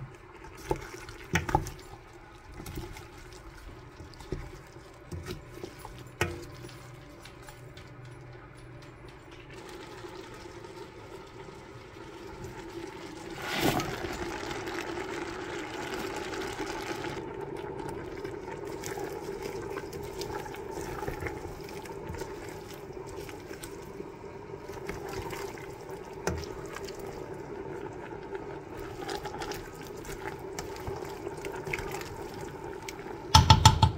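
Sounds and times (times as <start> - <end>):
vegetables bubbling and sizzling: 0.0 - 33.9.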